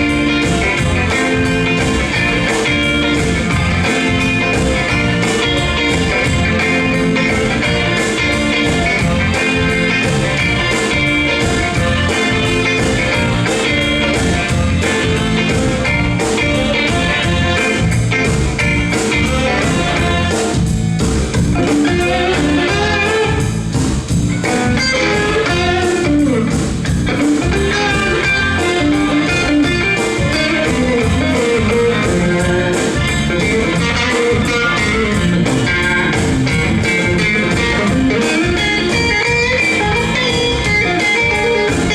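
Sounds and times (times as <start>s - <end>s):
blues band playing: 0.0s - 41.9s
electric guitar: 0.0s - 41.9s.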